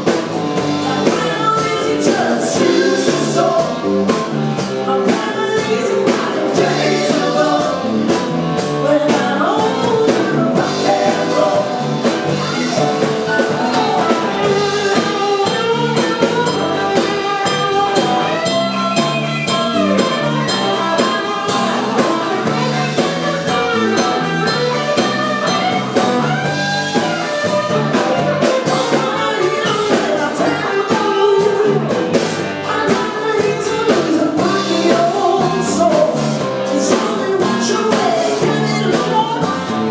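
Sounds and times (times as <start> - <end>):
lead singer singing: 0.0 - 39.9
live band playing: 0.0 - 39.9
steady drum beat: 0.0 - 39.9.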